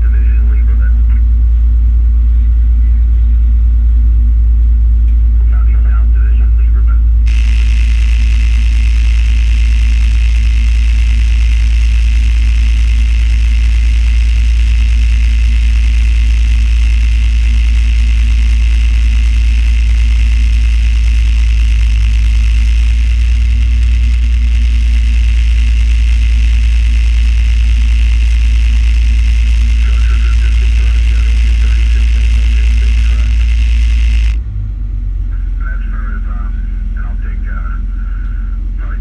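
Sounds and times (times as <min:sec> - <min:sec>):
diesel engine deep rumble: 0:00.0 - 0:39.0.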